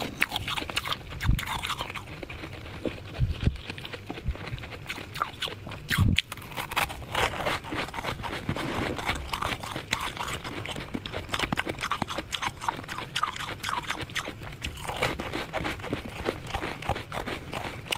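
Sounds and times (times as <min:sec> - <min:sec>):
ice being chewed crunching: 0:00.0 - 0:17.9.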